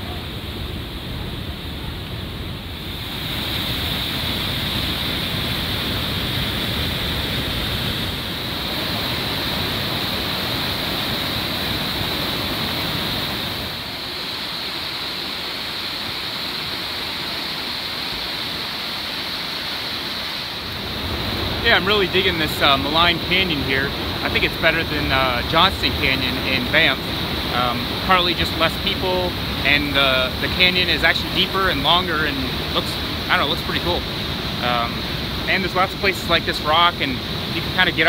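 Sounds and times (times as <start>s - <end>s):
whitewater rushing through rapids: 0.0s - 38.0s.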